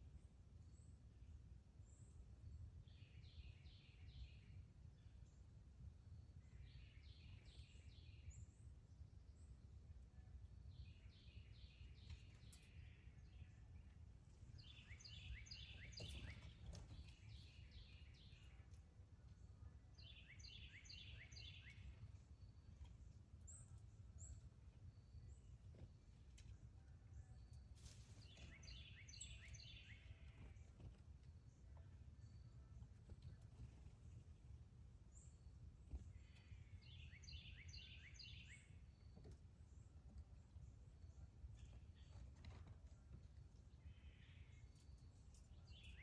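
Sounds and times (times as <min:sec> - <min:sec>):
songbird singing: 0:00.0 - 0:05.5, 0:06.1 - 0:46.0.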